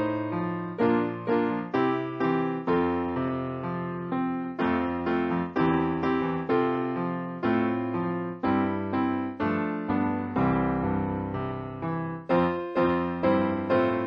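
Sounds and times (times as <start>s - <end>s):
slow piano hymn: 0.0s - 14.0s.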